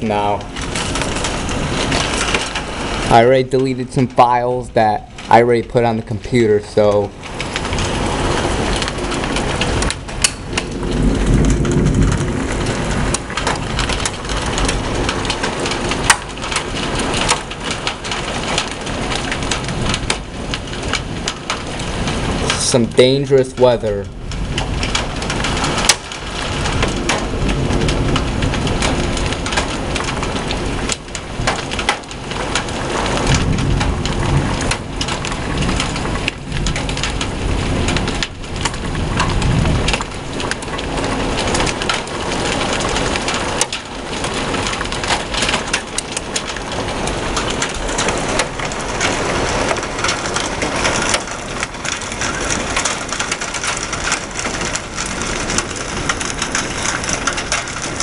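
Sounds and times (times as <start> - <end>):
heavy rain pelting down: 0.0 - 58.0
low thunder rumbling: 0.0 - 58.0.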